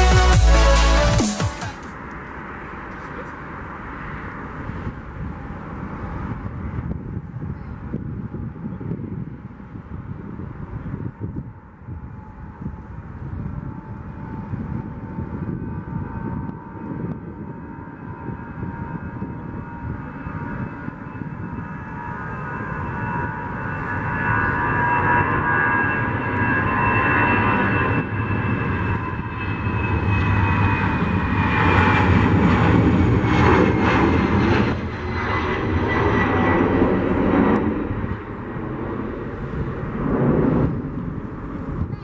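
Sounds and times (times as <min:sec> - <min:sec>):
jet engines whining: 0:00.0 - 0:42.0.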